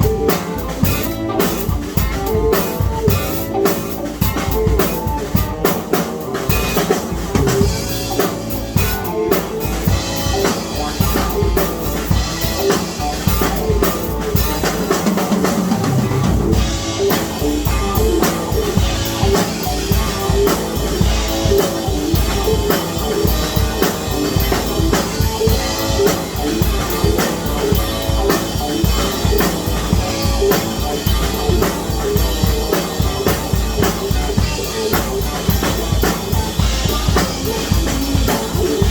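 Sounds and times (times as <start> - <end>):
drum kit beat: 0.0 - 38.9
guitar: 0.0 - 38.9.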